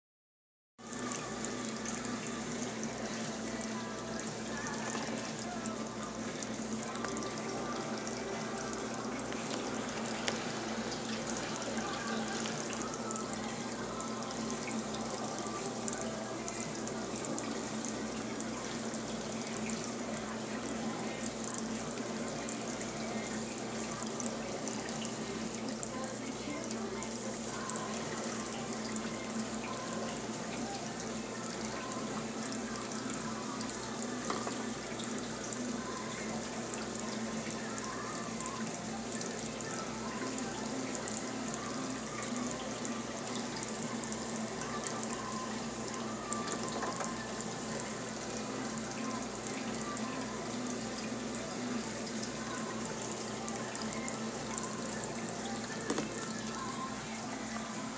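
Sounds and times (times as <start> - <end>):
faint pump hum: 0.8 - 57.9
water trickling and splashing: 0.8 - 57.9.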